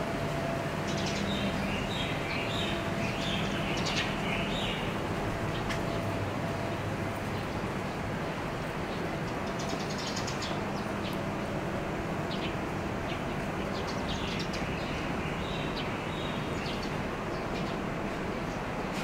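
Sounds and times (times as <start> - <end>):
outdoor background rumble: 0.0 - 19.0
small birds chirping: 0.9 - 6.2, 7.2 - 11.4, 12.2 - 18.7.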